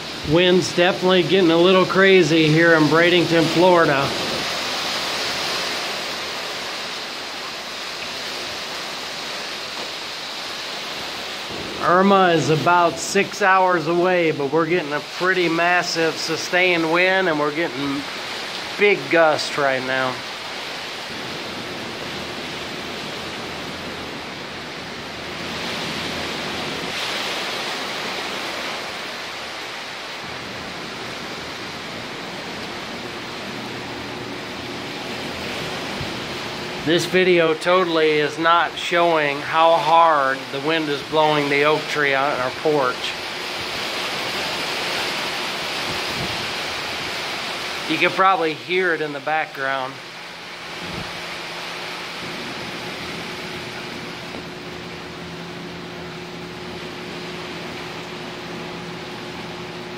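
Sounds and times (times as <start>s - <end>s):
strong wind through trees: 0.0s - 59.9s.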